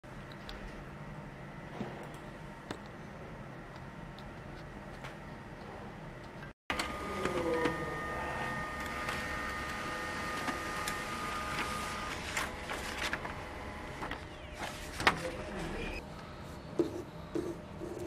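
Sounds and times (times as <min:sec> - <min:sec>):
laser printer whirring: 0:00.2 - 0:16.0.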